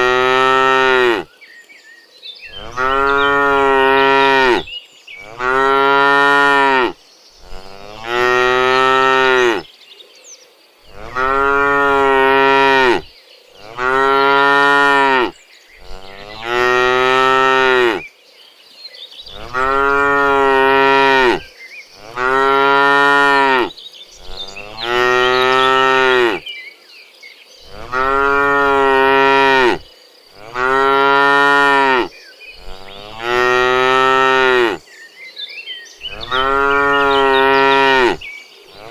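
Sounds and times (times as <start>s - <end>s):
cow mooing: 0.0s - 1.3s, 2.6s - 9.6s, 10.9s - 18.0s, 19.3s - 26.4s, 27.7s - 29.8s, 30.4s - 34.8s, 36.1s - 38.2s.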